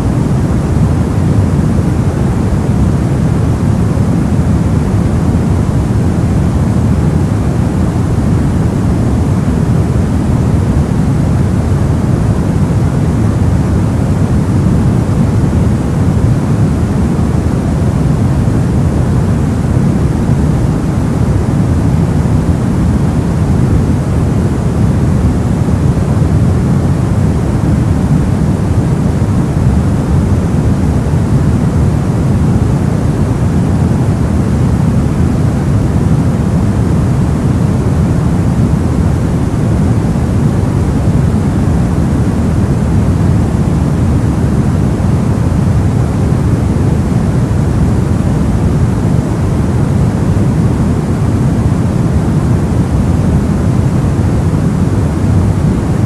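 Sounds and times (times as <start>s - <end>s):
deep white noise hiss: 0.0s - 56.0s.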